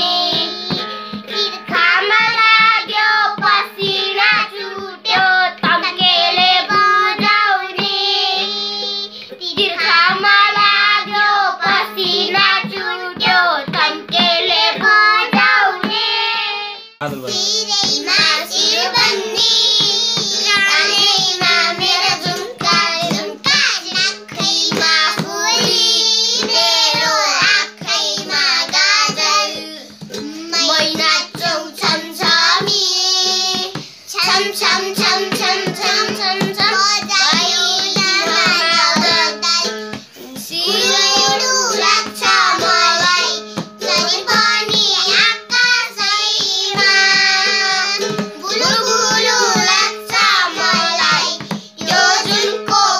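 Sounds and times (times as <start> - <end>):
hand drum beat: 0.0 - 16.2, 17.0 - 52.9
toy ukulele: 0.0 - 16.2, 17.0 - 52.9
children singing in unison: 0.0 - 52.9.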